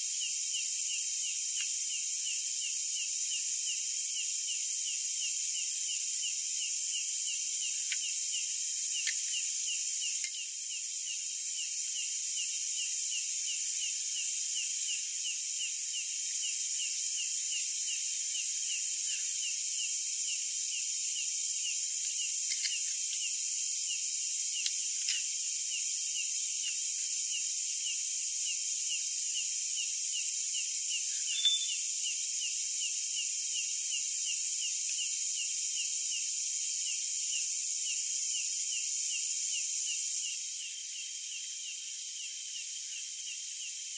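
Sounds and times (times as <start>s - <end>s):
insect high trill: 0.0s - 43.9s.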